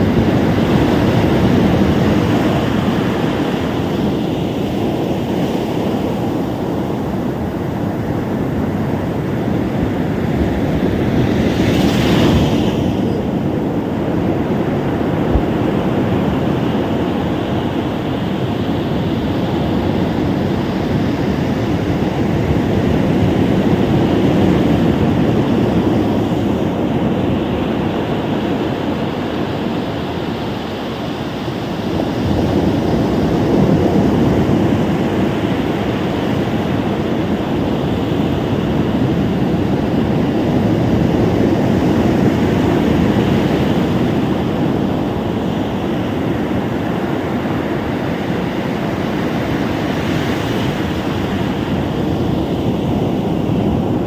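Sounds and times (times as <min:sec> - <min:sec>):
ocean surf washing on beach: 0:00.0 - 0:54.0.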